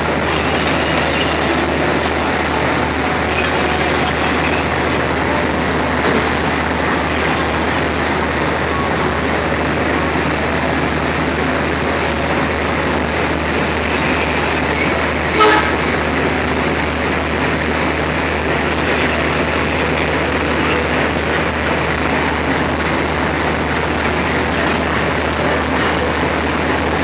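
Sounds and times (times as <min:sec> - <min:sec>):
diesel locomotive engine idling: 0:00.0 - 0:27.0.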